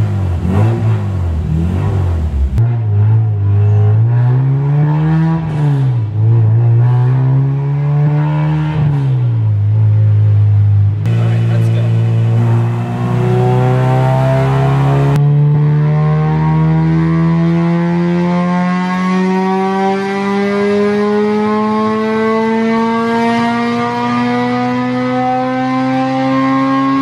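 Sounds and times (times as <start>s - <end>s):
car engine revving at full throttle: 0.0s - 27.0s.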